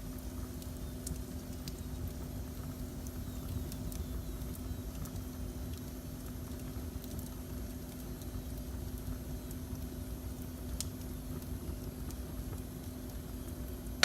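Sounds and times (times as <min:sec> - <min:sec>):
constant low hum: 0:00.0 - 0:14.0
fire crackles and pops: 0:00.0 - 0:14.0.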